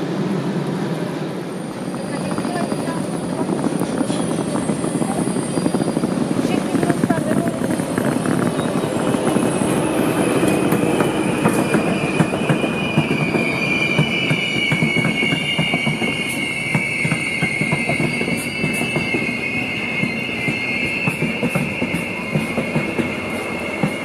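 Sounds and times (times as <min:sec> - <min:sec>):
low train rumble: 0:00.0 - 0:24.0
train wheels squealing: 0:01.5 - 0:24.0.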